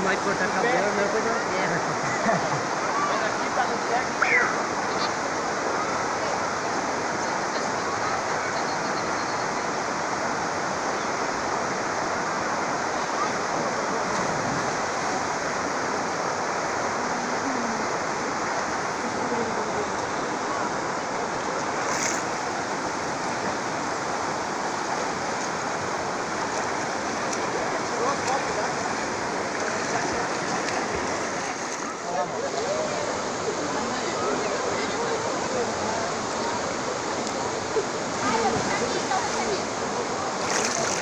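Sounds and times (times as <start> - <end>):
river water flowing over rocks: 0.0 - 41.0.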